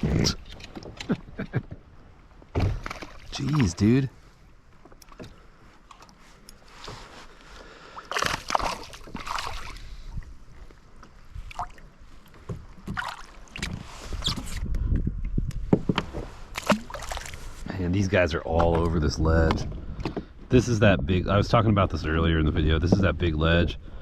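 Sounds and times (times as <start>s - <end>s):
water splashing against kayak: 0.0s - 14.7s, 15.6s - 20.4s.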